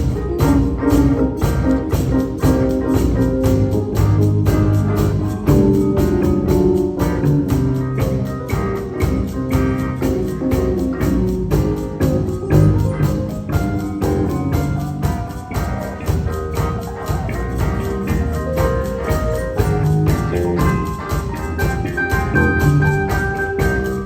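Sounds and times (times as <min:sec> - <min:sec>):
bass guitar: 0:00.0 - 0:24.0
piano: 0:00.0 - 0:24.0.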